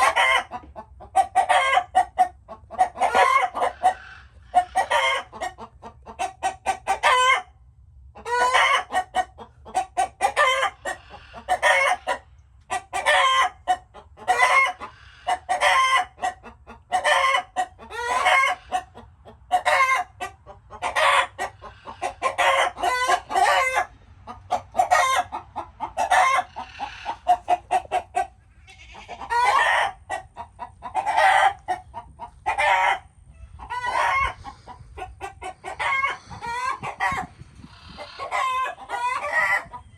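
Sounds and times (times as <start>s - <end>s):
chickens clucking and cackling: 0.0s - 39.9s.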